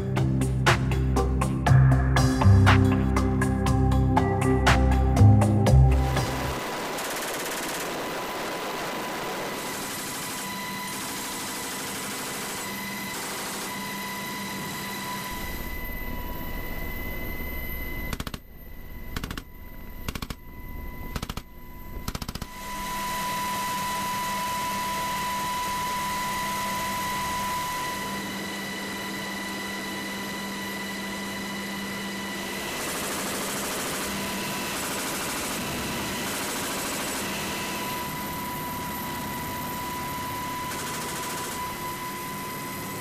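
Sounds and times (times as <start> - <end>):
helicopter turbine and rotor din: 0.0 - 43.0.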